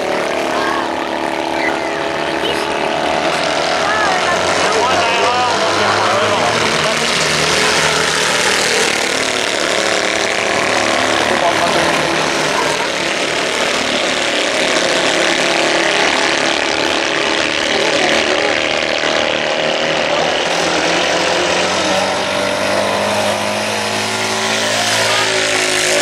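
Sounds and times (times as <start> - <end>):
constant rushing noise: 0.0 - 26.0
race car engines revving: 0.0 - 26.0.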